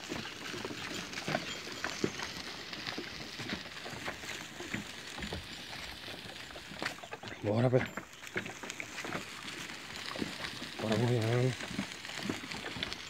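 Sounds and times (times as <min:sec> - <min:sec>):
goat hooves clattering on dirt: 0:00.0 - 0:13.0
wooden cart rattling: 0:00.0 - 0:13.0.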